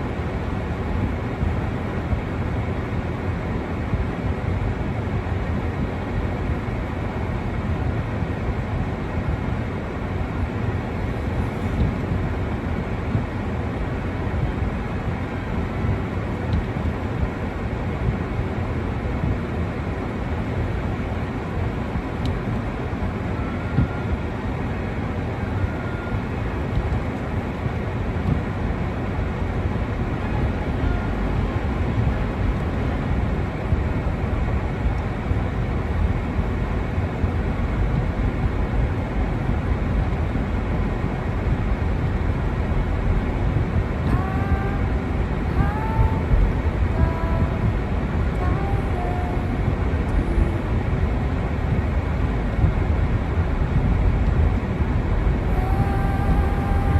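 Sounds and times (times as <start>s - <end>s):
low outdoor rumble: 0.0s - 56.9s.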